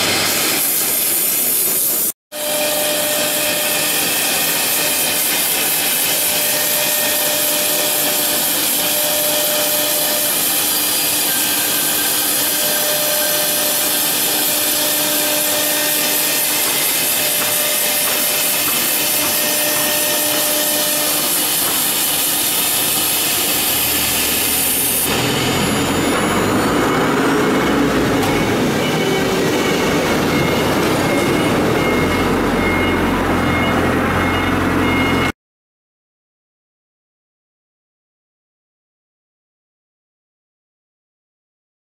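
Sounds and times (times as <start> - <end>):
router bit cutting wood: 0.0 - 35.1
wood router spindle whine: 0.0 - 35.3.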